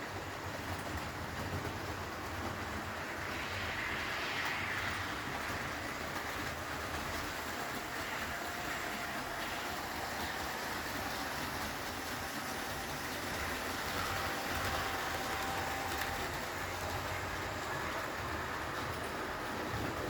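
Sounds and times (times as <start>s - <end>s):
faint motor whine: 0.0s - 20.0s
model train wheels rolling on rail: 0.0s - 20.0s.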